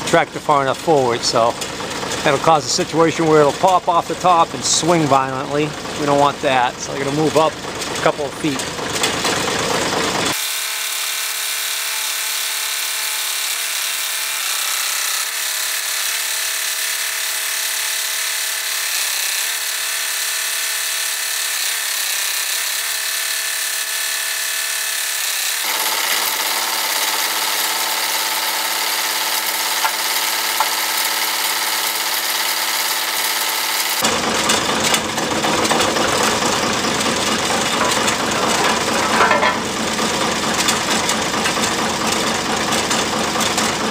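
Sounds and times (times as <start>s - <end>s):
tractor engine high whir: 0.0s - 43.9s.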